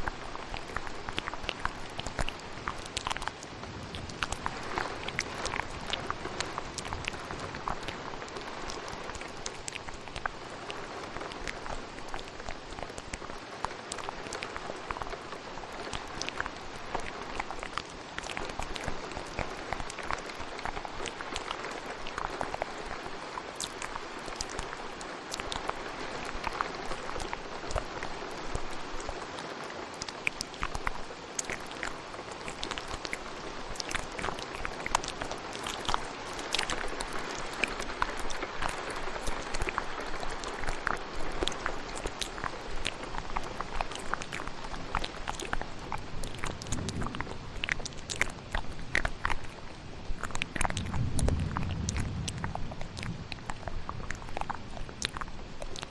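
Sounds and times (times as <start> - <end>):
steady rain falling: 0.0 - 55.9
wet mouth clicks and smacks: 0.0 - 55.9.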